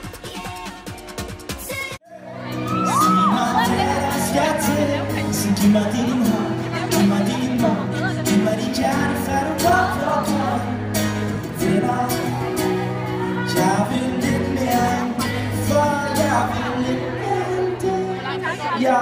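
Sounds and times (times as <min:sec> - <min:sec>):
person singing into microphone: 0:01.7 - 0:19.0
acoustic guitar: 0:02.1 - 0:19.0.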